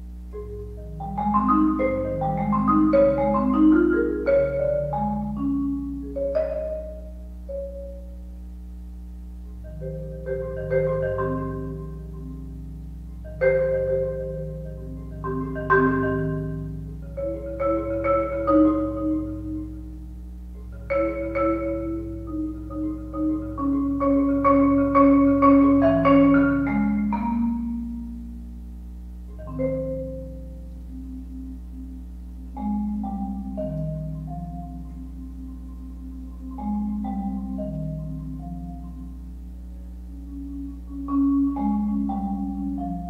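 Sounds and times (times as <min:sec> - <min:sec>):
solo marimba: 0:00.0 - 0:08.4, 0:09.4 - 0:43.0.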